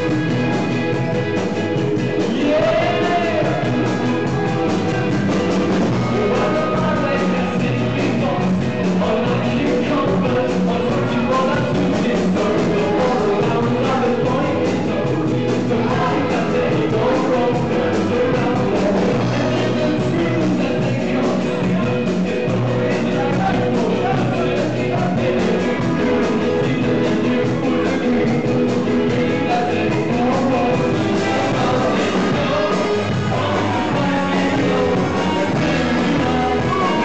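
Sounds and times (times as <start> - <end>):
drum kit: 0.0 - 37.0
electric guitars: 0.0 - 37.0
person singing: 0.0 - 37.0.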